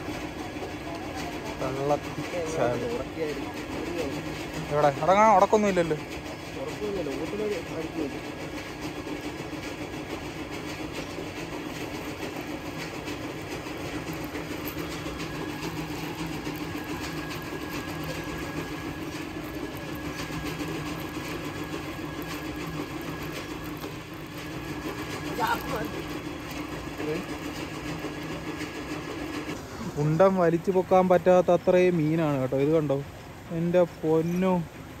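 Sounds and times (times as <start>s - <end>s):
motor humming: 0.0s - 29.7s.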